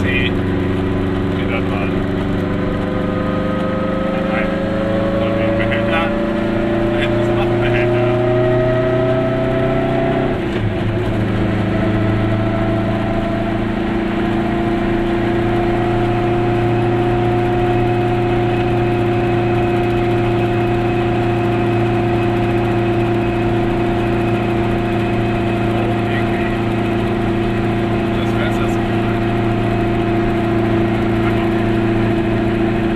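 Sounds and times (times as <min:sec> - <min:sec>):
two-stroke car engine running: 0:00.0 - 0:32.9.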